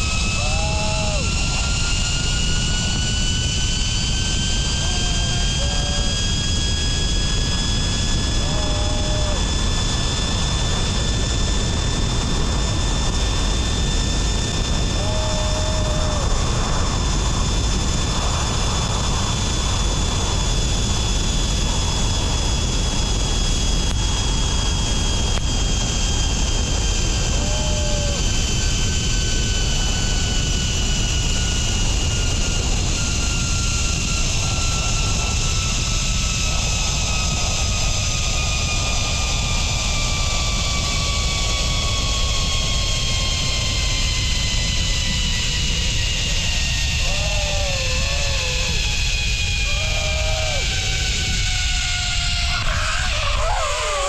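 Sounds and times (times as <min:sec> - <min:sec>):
wind rushing across microphone: 0:00.0 - 0:54.0
zipline pulleys whining on cable: 0:00.0 - 0:54.0.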